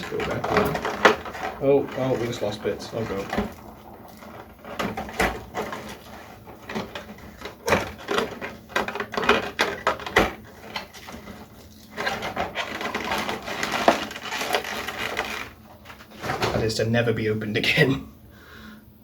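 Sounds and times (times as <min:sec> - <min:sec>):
plastic parts clicking: 0:00.0 - 0:16.6
plastic packaging rustling: 0:00.0 - 0:16.8.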